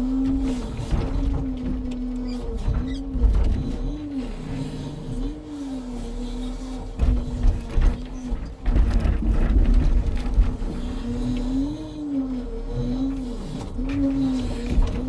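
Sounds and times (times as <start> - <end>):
truck engine and crane hydraulics: 0.0 - 15.0.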